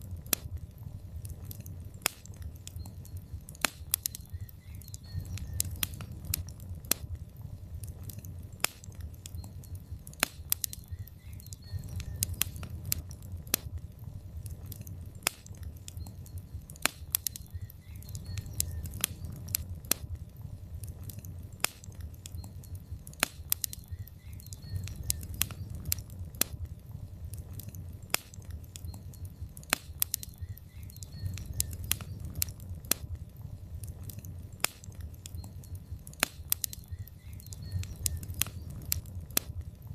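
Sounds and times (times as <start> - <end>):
logs crackling with sharp pops: 0.0 - 39.9
low rumble of flames: 0.0 - 39.9.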